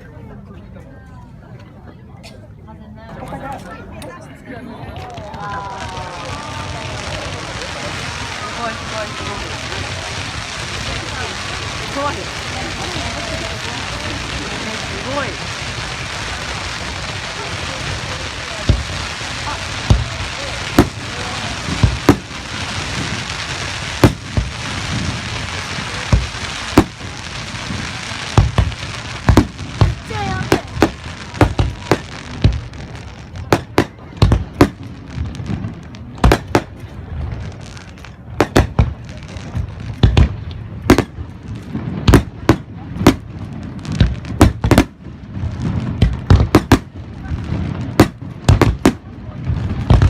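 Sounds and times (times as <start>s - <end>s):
crackling hiss: 5.0s - 50.0s
firework shells bursting with bangs: 6.2s - 50.0s.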